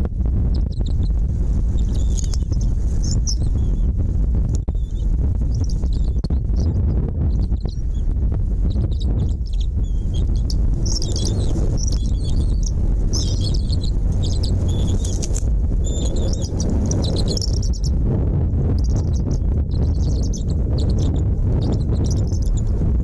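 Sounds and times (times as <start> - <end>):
steady low rumble: 0.0 - 23.0
small birds chirping: 0.5 - 3.9, 4.5 - 18.0, 18.6 - 22.8.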